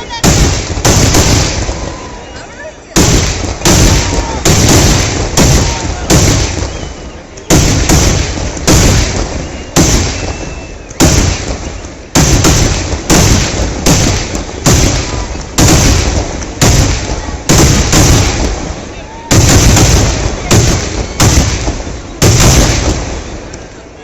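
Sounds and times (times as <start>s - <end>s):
fireworks exploding: 0.0s - 24.0s.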